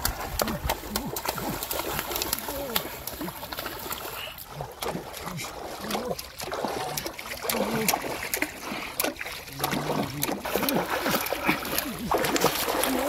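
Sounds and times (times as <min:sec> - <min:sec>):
fish thrashing and splashing: 0:00.0 - 0:13.0.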